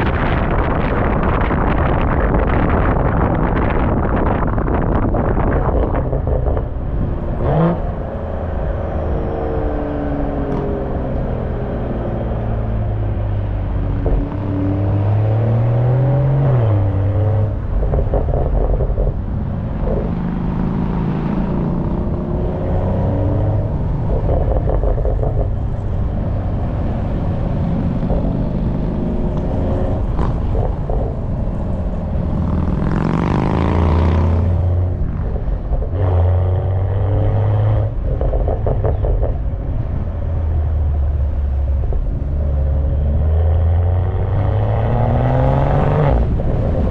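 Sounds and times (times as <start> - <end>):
car exhaust accelerating: 0.0 - 46.9
wind rumble on microphone: 0.0 - 46.9.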